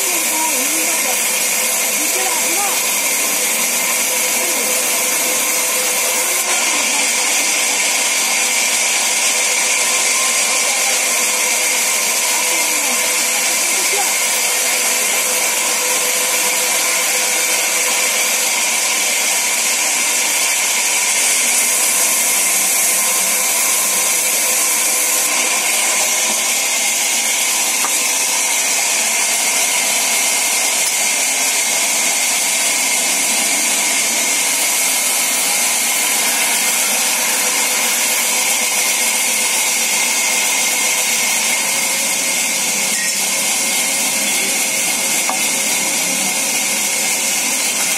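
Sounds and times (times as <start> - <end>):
band saw cutting timber: 0.0 - 47.9.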